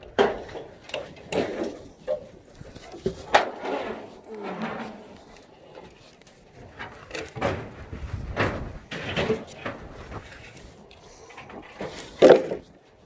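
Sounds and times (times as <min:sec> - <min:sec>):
boards knocking and clattering: 0:00.0 - 0:12.8.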